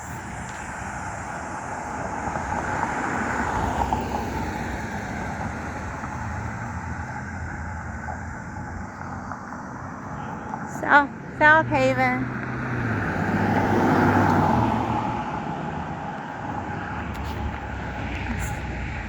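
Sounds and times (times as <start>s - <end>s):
car road noise: 0.0s - 19.0s.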